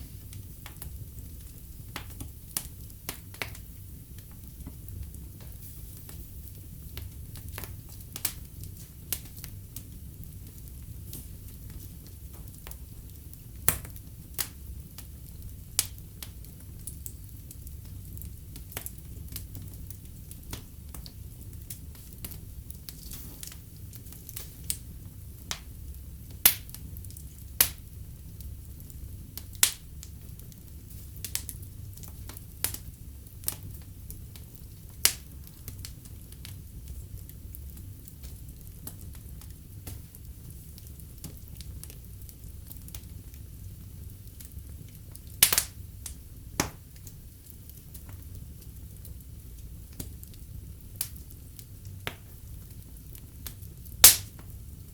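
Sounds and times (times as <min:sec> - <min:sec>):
low rumble of flames: 0:00.0 - 0:54.9
logs crackling and popping: 0:00.1 - 0:54.6.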